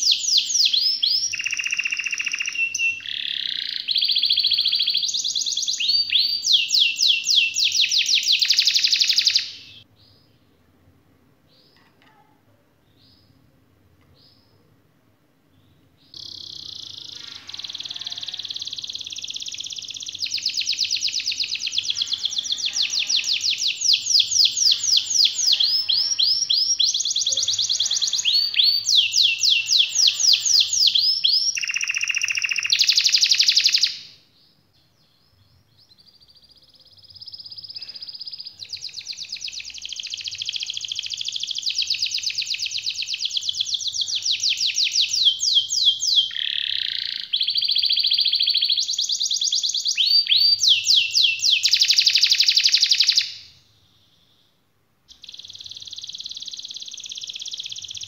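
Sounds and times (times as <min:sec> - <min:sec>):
canary singing trills: 0:00.0 - 0:10.4, 0:15.6 - 0:58.0.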